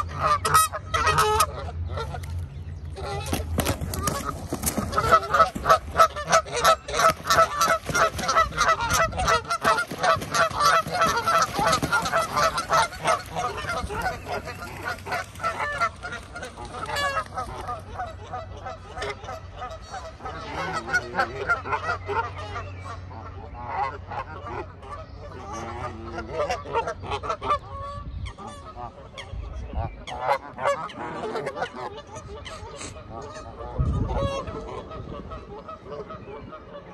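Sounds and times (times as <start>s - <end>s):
geese honking: 0.0s - 2.4s, 3.0s - 36.9s.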